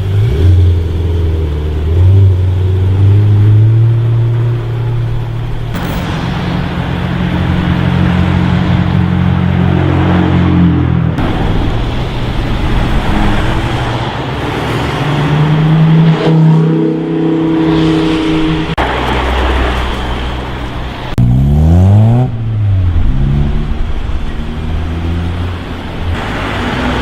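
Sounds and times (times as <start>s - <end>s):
car engines accelerating: 0.0s - 27.0s.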